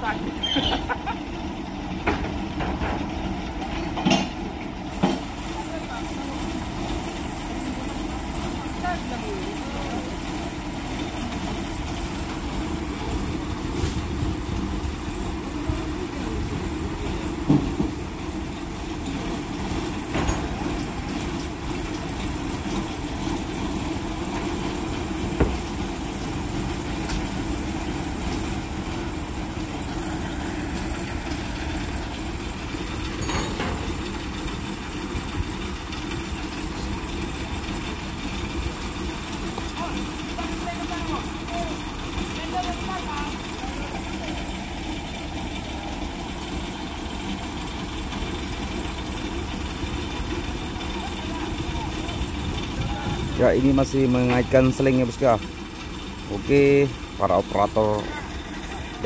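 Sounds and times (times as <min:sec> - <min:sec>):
truck engines idling: 0:00.0 - 0:59.0.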